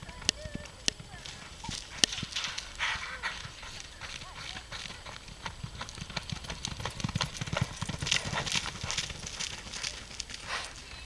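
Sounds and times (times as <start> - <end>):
horse hooves galloping on dirt: 0.0 - 11.0.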